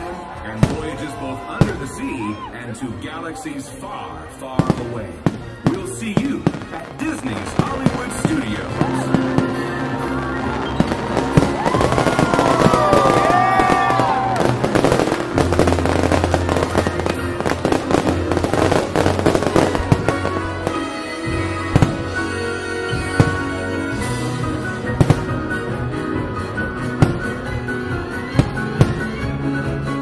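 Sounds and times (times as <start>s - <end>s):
orchestral music: 0.0s - 30.0s
firework bangs and crackling: 0.1s - 2.9s, 4.2s - 30.0s.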